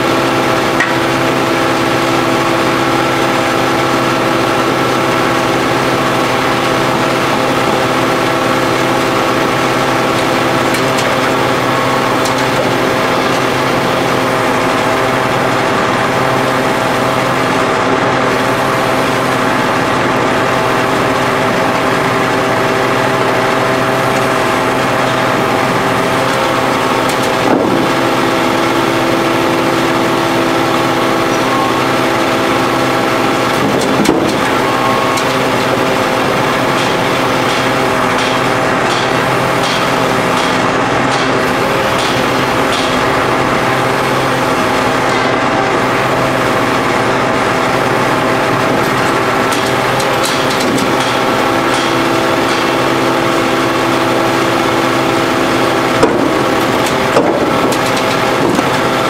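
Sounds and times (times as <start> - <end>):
high whine: 0.0 - 59.0
hydraulic power pack running: 0.0 - 59.0.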